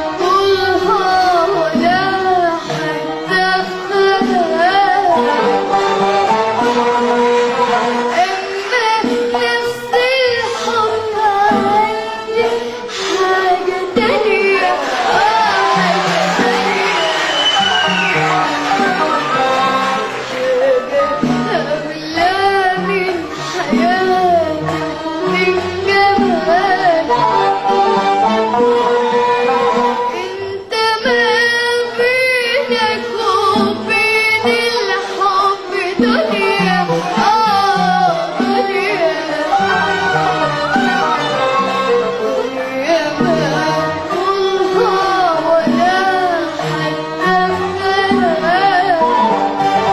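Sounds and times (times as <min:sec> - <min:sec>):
girl singing: 0:00.0 - 0:06.3, 0:08.0 - 0:17.4, 0:18.8 - 0:28.2, 0:29.4 - 0:39.8, 0:42.1 - 0:49.9
live band accompaniment: 0:00.0 - 0:49.9.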